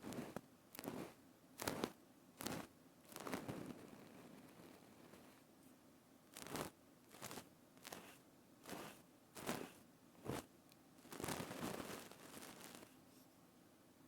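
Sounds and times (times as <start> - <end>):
crackly crunches and rustles: 0.0 - 5.4, 6.3 - 13.0.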